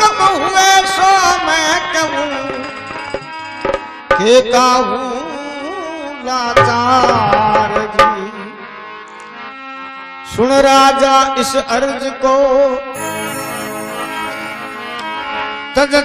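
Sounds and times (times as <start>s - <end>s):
harmonium: 0.0s - 16.0s.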